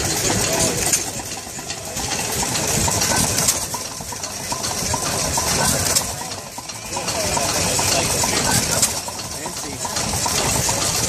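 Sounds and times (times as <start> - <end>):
engine running: 0.0 - 11.0
power hacksaw clattering: 0.0 - 11.0.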